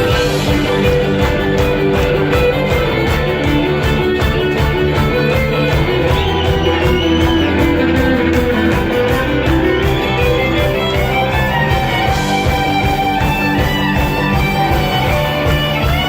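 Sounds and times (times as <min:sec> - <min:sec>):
rock band music led by guitar: 0:00.0 - 0:16.0.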